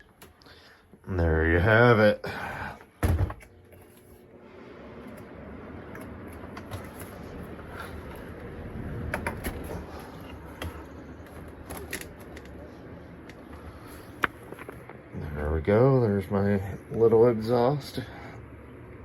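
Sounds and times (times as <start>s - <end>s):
box fan humming: 0.0s - 19.0s.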